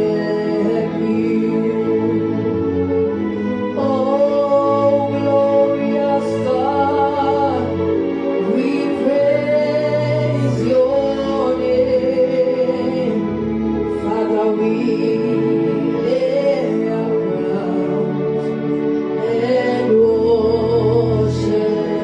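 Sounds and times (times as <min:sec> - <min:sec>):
person singing gospel song: 0:00.0 - 0:02.5, 0:03.6 - 0:22.0
sustained instrumental chords: 0:00.0 - 0:22.0.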